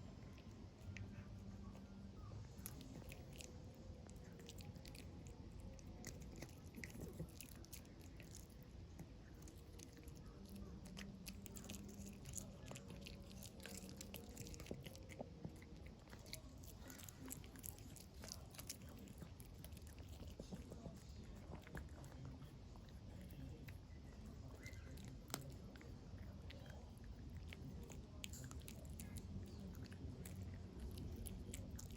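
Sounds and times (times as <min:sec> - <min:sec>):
dog chewing: 0:00.1 - 0:31.9.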